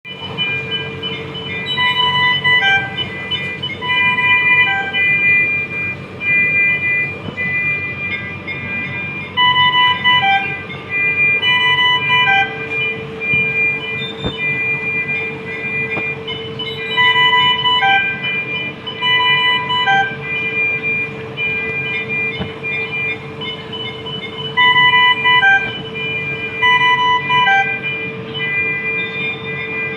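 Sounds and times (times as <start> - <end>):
medical equipment alarm beeps: 0.0 - 29.9
steady hum: 0.1 - 29.0.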